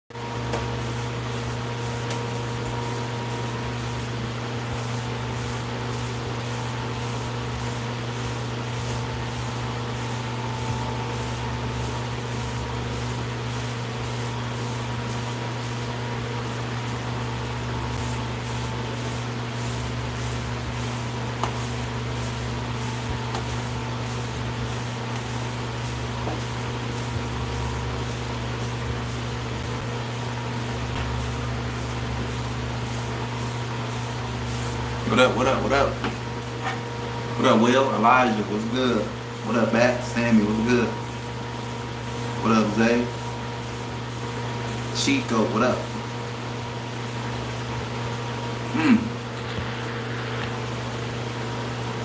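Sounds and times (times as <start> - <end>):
low electrical hum: 0.2 - 52.0.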